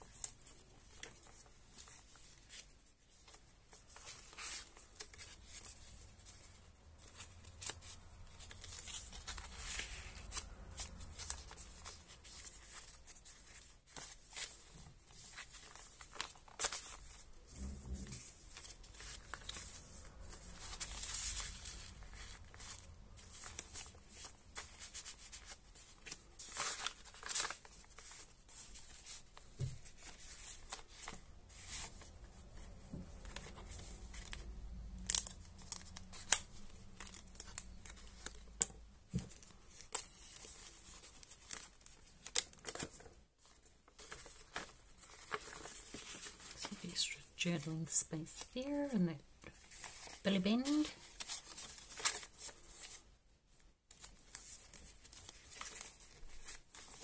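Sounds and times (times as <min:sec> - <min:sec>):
paper pages rustling: 0:00.0 - 0:47.6, 0:48.3 - 0:53.1, 0:53.9 - 0:57.0.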